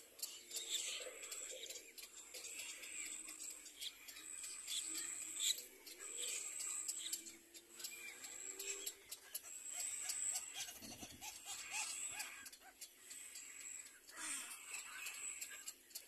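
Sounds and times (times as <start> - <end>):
bird chicks squeaking and clicking: 0.0 - 16.0.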